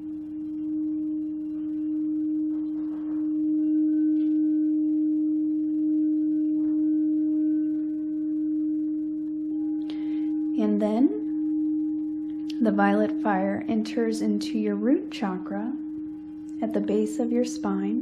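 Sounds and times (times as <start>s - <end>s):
singing bowl tone: 0.0s - 18.0s.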